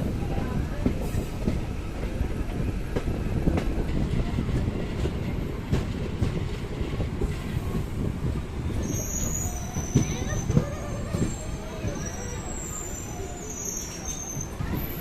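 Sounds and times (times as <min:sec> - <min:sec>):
electric train rumbling on rails: 0:00.0 - 0:15.0.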